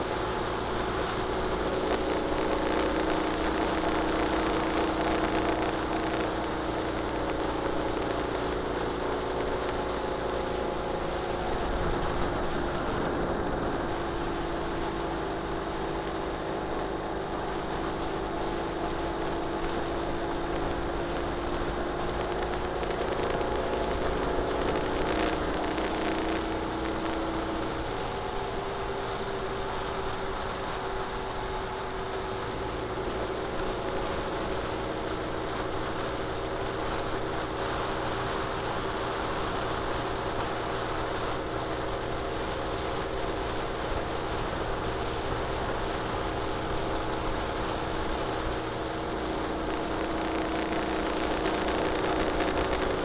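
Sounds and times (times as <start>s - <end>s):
motorcycle engine running steadily: 0.0s - 53.0s
tyre noise on road: 0.0s - 53.0s.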